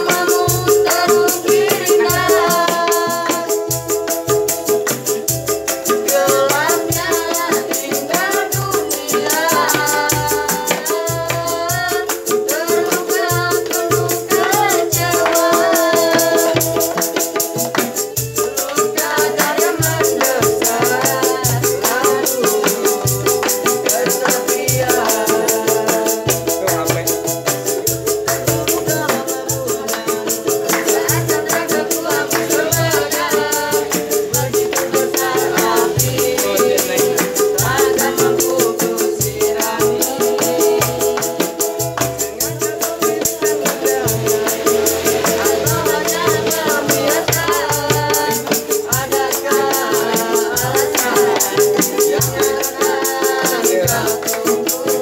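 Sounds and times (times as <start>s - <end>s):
hand drums beating: 0.0s - 55.0s
people singing: 0.0s - 55.0s
tambourine jingling: 0.0s - 55.0s.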